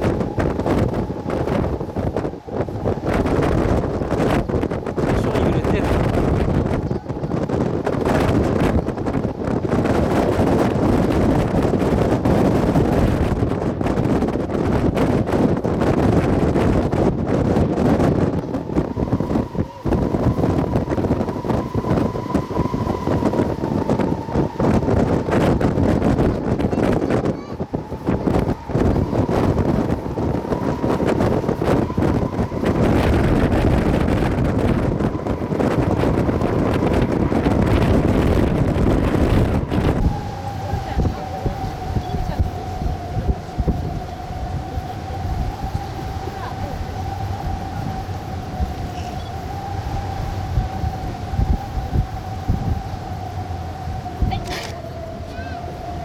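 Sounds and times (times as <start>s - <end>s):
thin steady whine: 0.0s - 56.0s
wind buffeting microphone: 0.0s - 56.0s.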